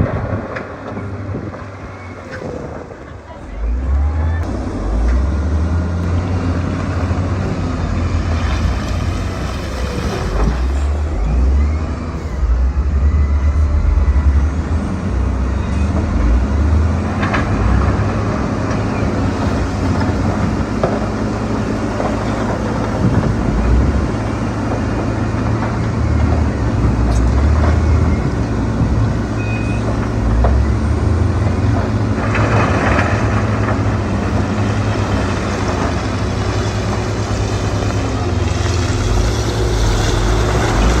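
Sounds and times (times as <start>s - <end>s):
diesel engines droning: 0.0s - 41.0s.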